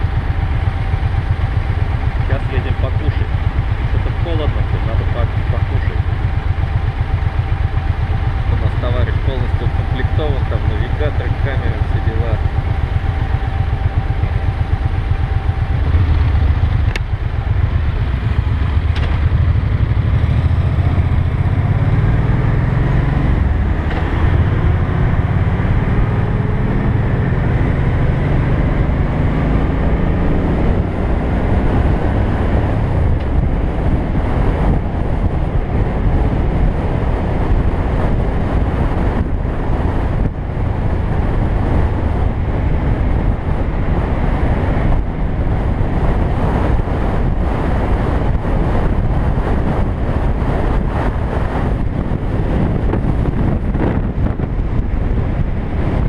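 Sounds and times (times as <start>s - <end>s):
motorcycle engine accelerating: 0.0s - 56.0s
wind rumble on microphone: 0.0s - 56.0s.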